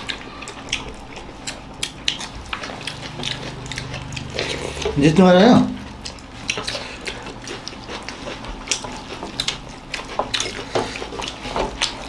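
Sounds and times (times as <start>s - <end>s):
chewing and mouth smacks: 0.0s - 5.0s, 5.8s - 12.0s.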